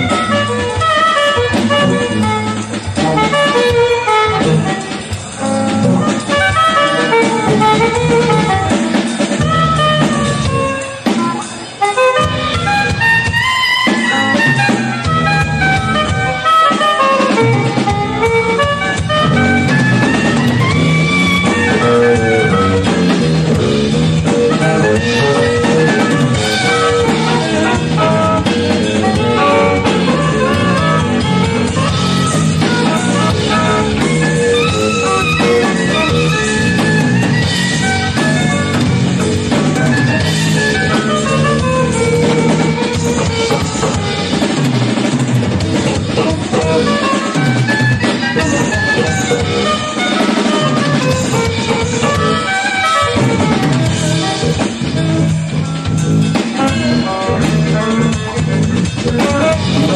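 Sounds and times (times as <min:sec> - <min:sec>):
drum kit: 0:00.0 - 0:59.9
electric bass: 0:00.0 - 0:59.9
electric guitar: 0:00.0 - 0:59.9
keyboards: 0:00.0 - 0:59.9
saxophone: 0:00.0 - 0:59.9.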